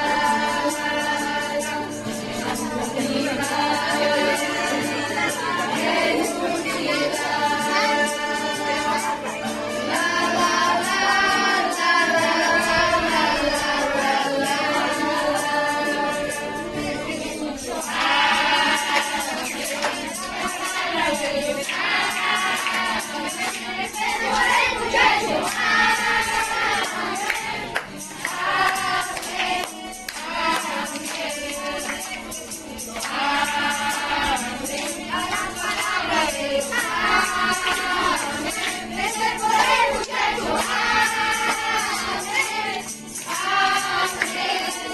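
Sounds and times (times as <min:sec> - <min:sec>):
group singing a worship song: 0:00.0 - 0:44.9
tambourine shaken and struck: 0:00.0 - 0:44.9.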